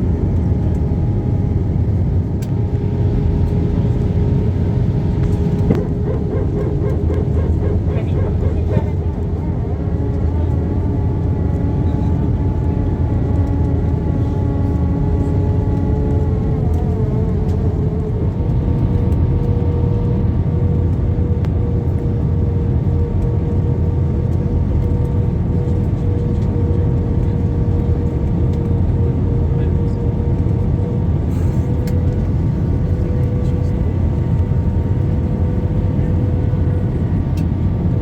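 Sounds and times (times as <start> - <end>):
airliner cabin engine rumble: 0.0 - 38.0
humming engine tones: 0.0 - 38.0.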